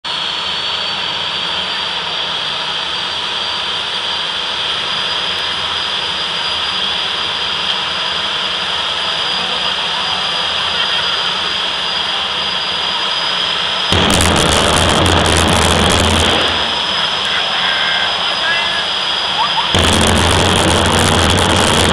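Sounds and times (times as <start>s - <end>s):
jet engine roaring and whining: 0.1s - 21.9s.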